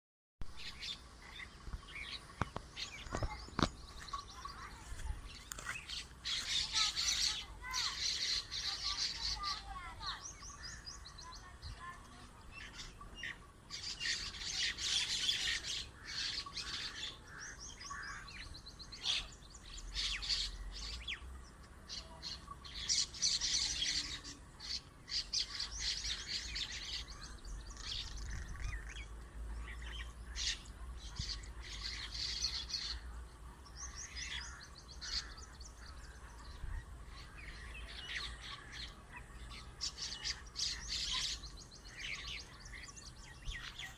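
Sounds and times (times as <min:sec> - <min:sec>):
small birds chirping: 0:00.4 - 0:43.9.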